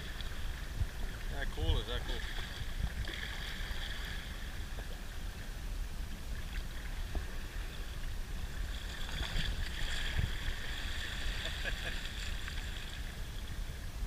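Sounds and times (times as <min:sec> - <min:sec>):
water rushing along a boat: 0:00.0 - 0:14.0
wind rumble on microphone: 0:00.0 - 0:14.0.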